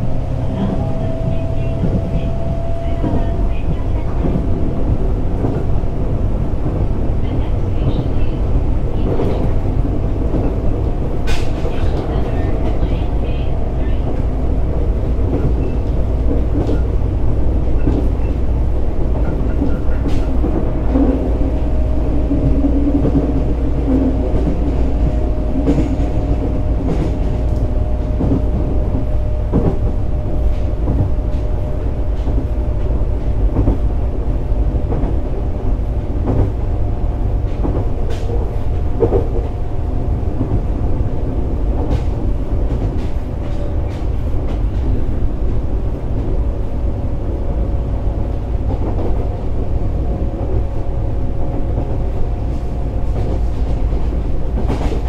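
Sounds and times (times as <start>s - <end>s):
rail joint clicks and knocks: 0.0s - 55.0s
train wheels rumbling on rail: 0.0s - 55.0s.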